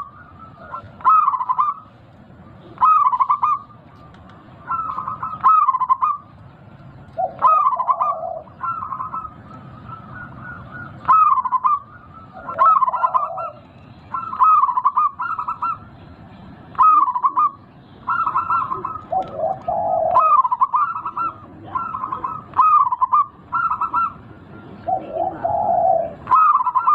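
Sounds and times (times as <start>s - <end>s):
dove cooing: 0.0s - 6.4s, 7.0s - 16.0s, 16.7s - 26.9s.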